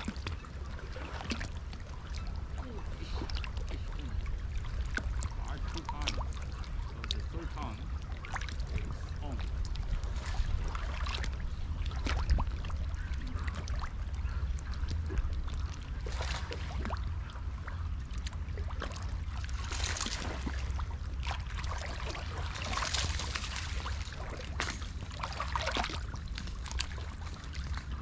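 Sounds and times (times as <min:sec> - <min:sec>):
low steady rumble: 0:00.0 - 0:28.0
waves lapping against rocky shore: 0:00.0 - 0:28.0.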